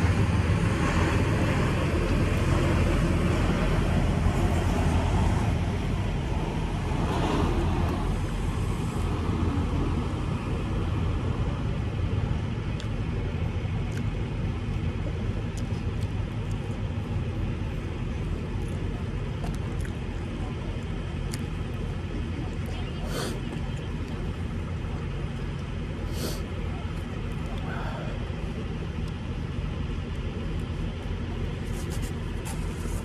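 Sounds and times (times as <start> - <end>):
truck diesel engine rumbling: 0.0 - 33.0.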